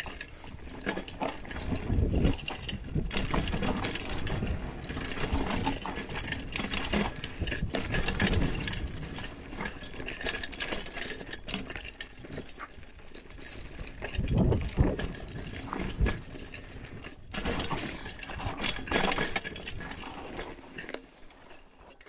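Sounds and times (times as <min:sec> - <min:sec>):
mountain bike rattling: 0:00.0 - 0:22.0.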